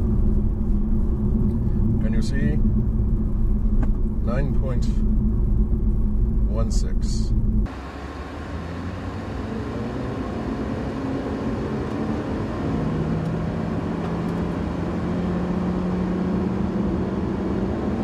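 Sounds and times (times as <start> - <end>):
car engine drone: 0.0 - 18.0
low engine hum: 0.0 - 18.0
road noise: 0.0 - 18.0.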